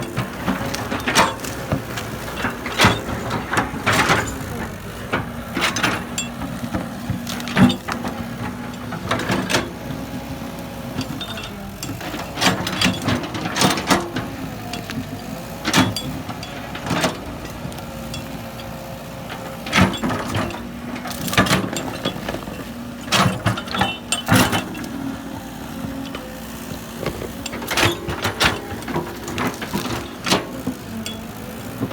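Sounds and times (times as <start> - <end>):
heavy diesel machinery running: 0.0 - 31.9.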